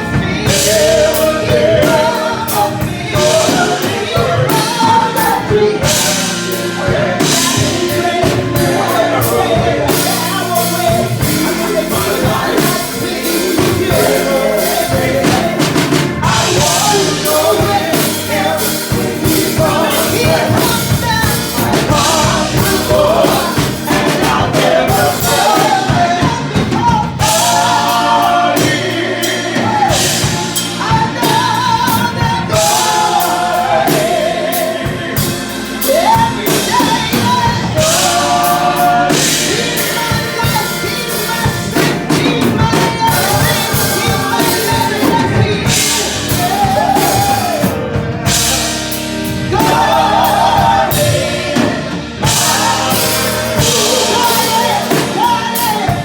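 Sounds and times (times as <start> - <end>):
gospel band with drum kit: 0.0 - 56.0.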